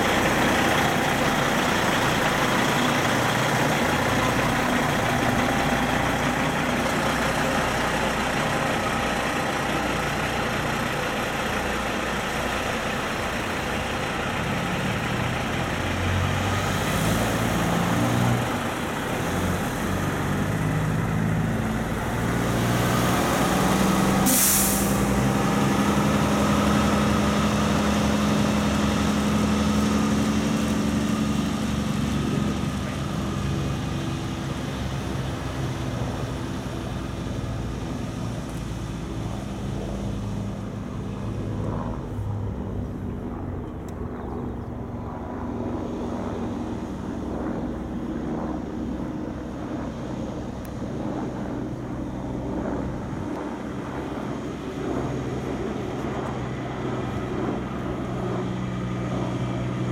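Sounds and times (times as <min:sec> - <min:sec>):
truck diesel engine: 0:00.0 - 0:45.0, 0:48.6 - 0:59.9.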